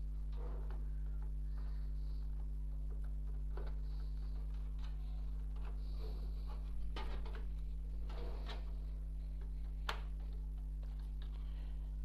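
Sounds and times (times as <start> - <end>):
clicks and rustles of handling: 0.0 - 12.0
steady low hum: 0.0 - 12.0.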